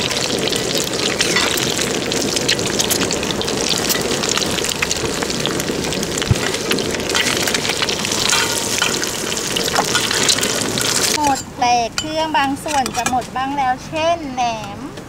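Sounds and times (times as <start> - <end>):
hot oil sizzling and crackling: 0.0 - 13.2.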